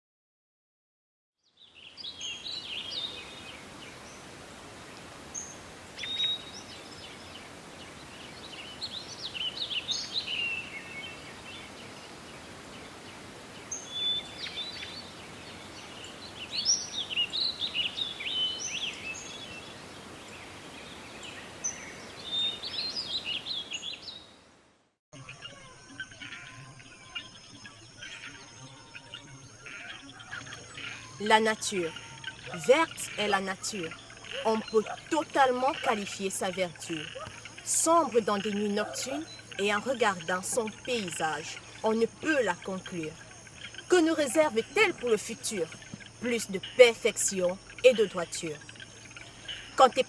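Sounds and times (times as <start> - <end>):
songbirds chirping and trilling: 1.4 - 24.5, 25.2 - 50.0
steady background hiss: 1.6 - 24.8, 25.9 - 50.0.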